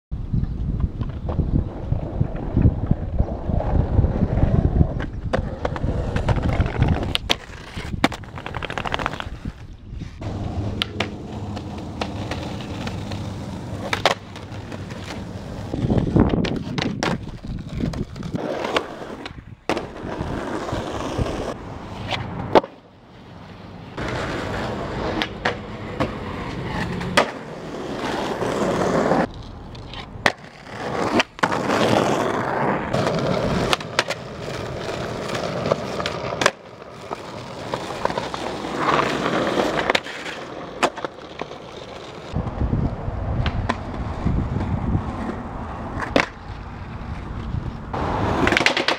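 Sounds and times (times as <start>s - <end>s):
skateboard wheels rolling on asphalt: 0.1s - 48.9s
skateboard tail pops and landings: 0.7s - 9.5s, 10.3s - 22.8s, 24.0s - 42.6s, 46.0s - 46.7s, 48.2s - 48.9s
skateboard trucks grinding on concrete: 0.8s - 48.9s.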